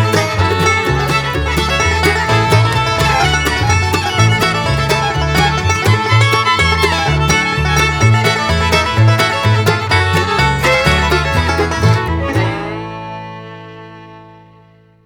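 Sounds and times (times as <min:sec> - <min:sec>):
upbeat plucked string music: 0:00.0 - 0:15.0.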